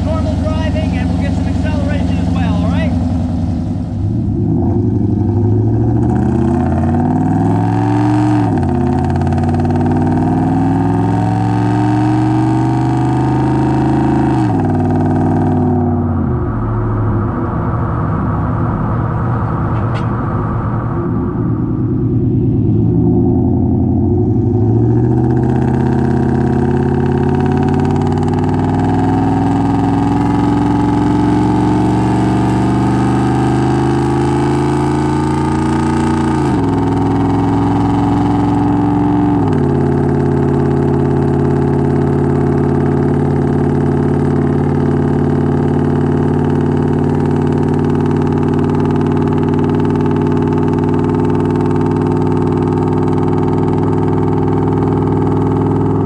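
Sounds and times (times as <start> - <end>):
truck engine exhaust accelerating: 0.0 - 56.0.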